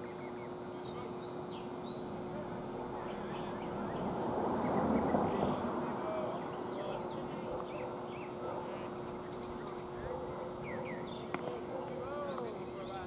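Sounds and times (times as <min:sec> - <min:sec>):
small birds chirping: 0:00.0 - 0:13.0
steady low hum: 0:00.0 - 0:13.0
crowd murmur: 0:02.0 - 0:13.0.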